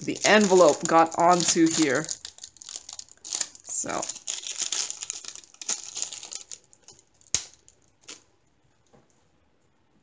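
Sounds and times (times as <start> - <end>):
plastic sleeve crinkling: 0.0 - 8.4.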